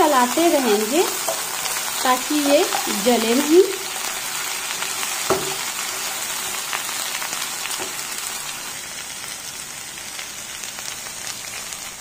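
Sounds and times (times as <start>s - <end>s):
potato sticks sizzling in oil: 0.0s - 12.0s.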